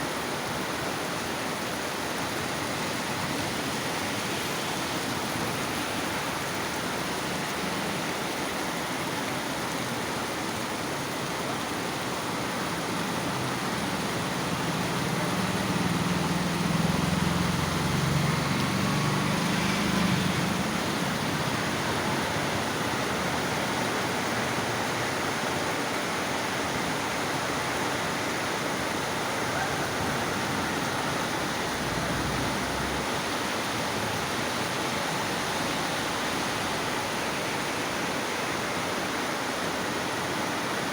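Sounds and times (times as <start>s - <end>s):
heavy rain falling: 0.3s - 40.9s.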